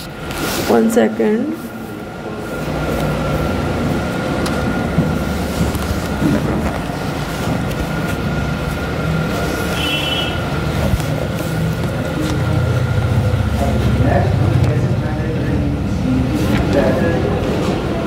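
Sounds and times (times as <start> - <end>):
thin steady whine: 0.0 - 17.5.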